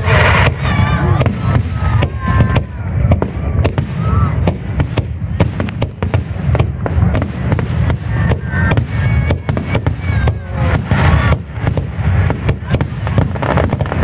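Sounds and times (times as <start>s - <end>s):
firework crackling: 0.0s - 14.0s.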